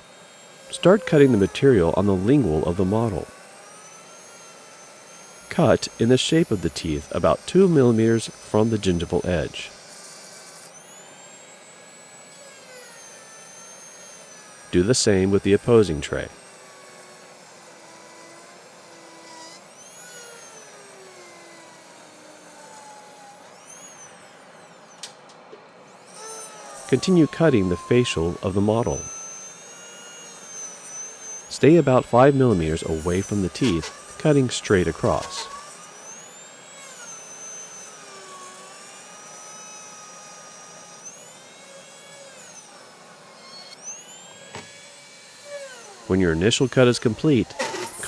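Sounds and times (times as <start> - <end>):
dental drill whining: 0.0 - 48.0.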